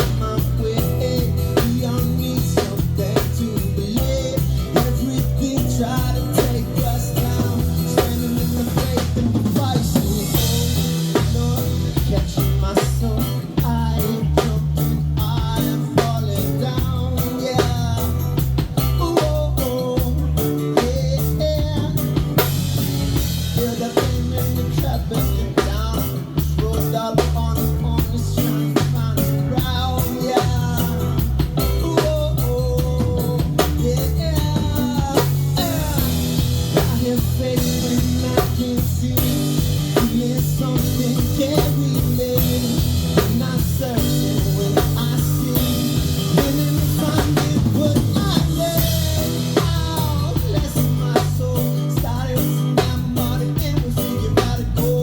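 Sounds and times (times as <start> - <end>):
bass guitar: 0.0 - 55.0
drum kit with rimshots: 0.0 - 55.0
guitar melody: 0.0 - 55.0.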